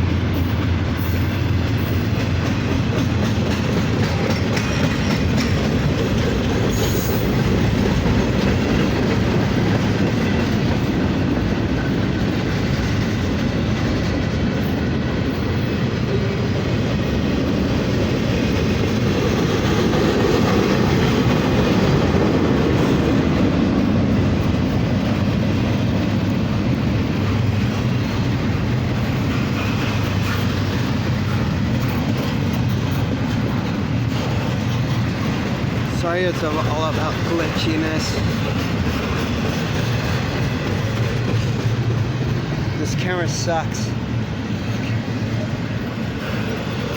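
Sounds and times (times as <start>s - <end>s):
freight train rolling past: 0.0s - 46.9s.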